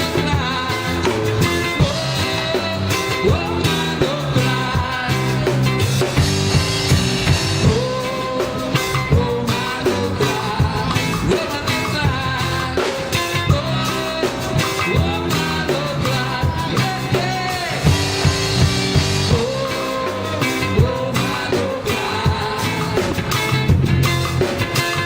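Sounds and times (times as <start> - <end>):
bass line: 0.0 - 25.0
drum beat: 0.0 - 25.0
live band playing reggae: 0.0 - 25.0.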